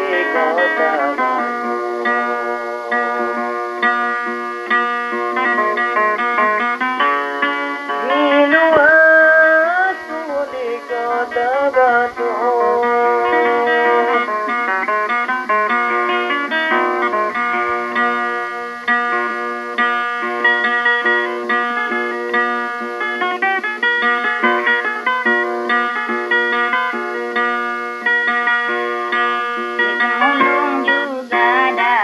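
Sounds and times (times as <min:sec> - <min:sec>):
plucked guitar melody: 0:00.0 - 0:32.0.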